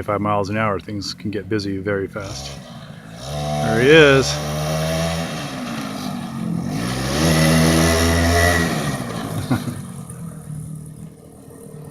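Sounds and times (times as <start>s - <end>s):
small motorcycle engine: 0.0s - 11.9s.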